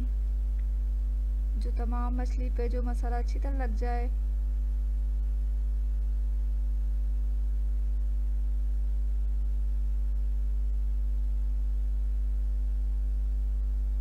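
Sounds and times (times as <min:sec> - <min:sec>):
buzzy electrical mains hum: 0:00.0 - 0:14.0.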